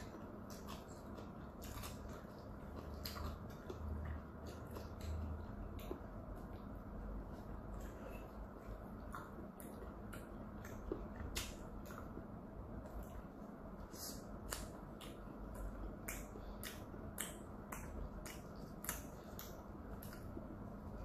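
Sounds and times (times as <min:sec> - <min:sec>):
wet chewing with mouth clicks: 0:00.0 - 0:21.0.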